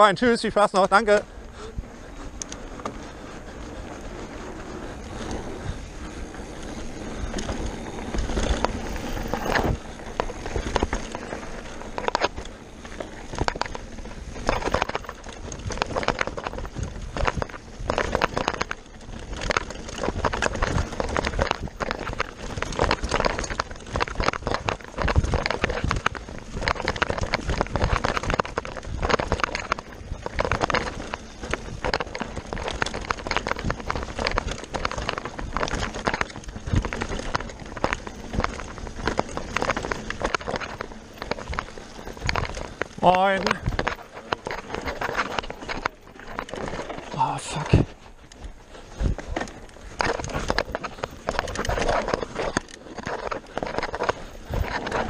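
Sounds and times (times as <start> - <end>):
bike knocking and rattling: 0.0 - 55.0
bike tyres crunching over stones: 0.0 - 55.0.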